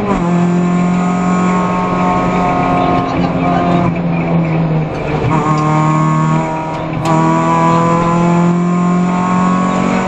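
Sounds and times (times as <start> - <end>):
rally car engine under load: 0.0 - 10.0.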